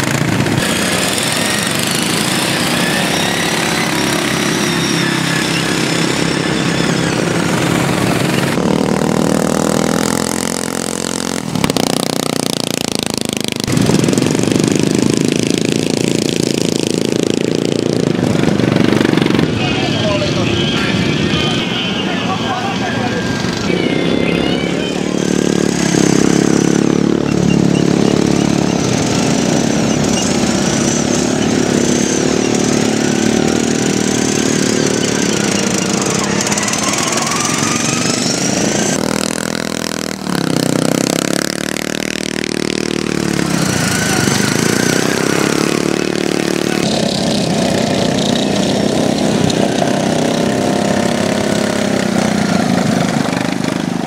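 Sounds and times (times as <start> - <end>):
racing lawn mower engines: 0.0 - 54.0.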